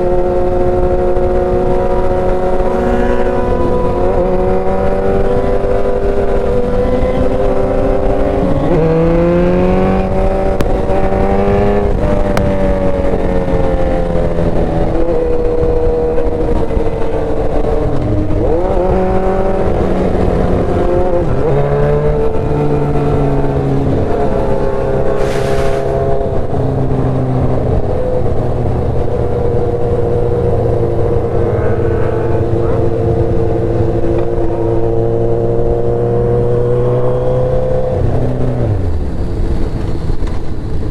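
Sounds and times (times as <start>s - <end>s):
motorcycle engine running: 0.0s - 36.0s
wind rumble on microphone: 0.0s - 40.9s.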